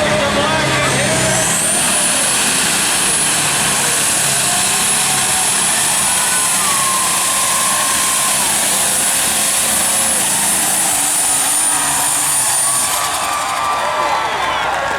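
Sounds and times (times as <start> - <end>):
high whine: 0.0 - 14.4
tractor engine roaring: 0.0 - 14.9.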